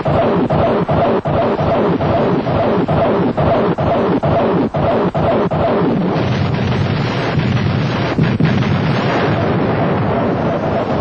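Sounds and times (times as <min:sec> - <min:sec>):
rocket launch roar: 0:00.0 - 0:11.0
sharp cracks: 0:00.0 - 0:11.0.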